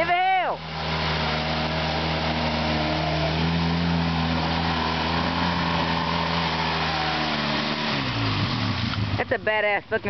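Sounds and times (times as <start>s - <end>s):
tyres splashing through mud: 0.0s - 10.0s
atv engine running under load: 0.1s - 10.0s.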